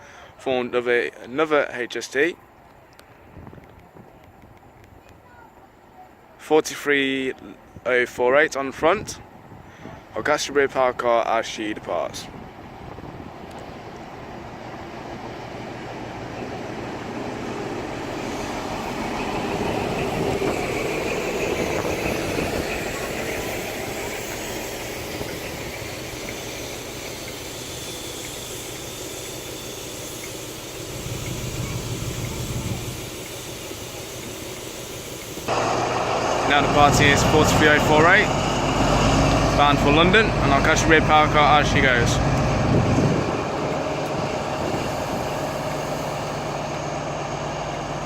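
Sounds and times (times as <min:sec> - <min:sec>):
diesel train engines: 0:00.0 - 0:48.0.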